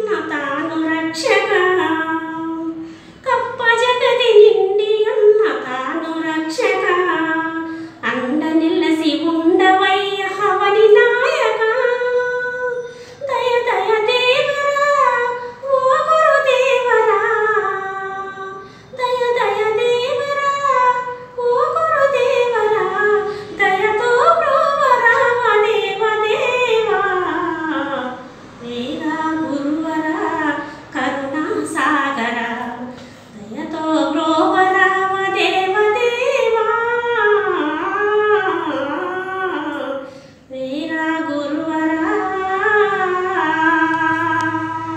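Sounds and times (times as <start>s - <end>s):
woman singing unaccompanied: 0.0s - 44.9s.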